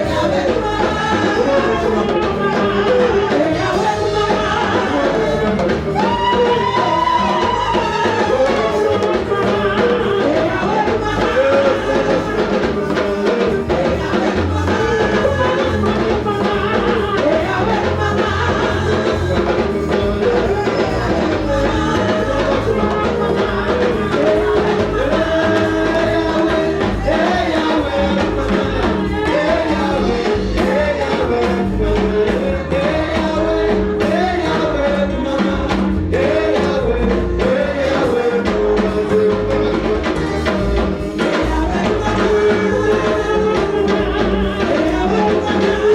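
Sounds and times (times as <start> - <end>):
band with steady drum beat: 0.0 - 45.9
voices singing: 0.0 - 45.9.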